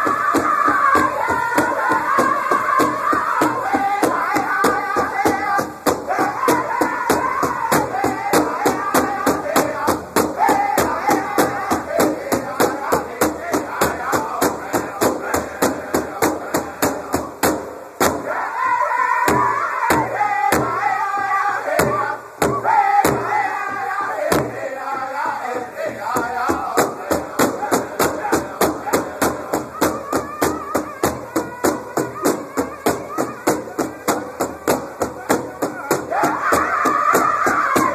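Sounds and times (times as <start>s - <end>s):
large bass drum beating: 0.0s - 18.4s, 19.3s - 37.9s
men singing in high voices: 0.0s - 37.9s.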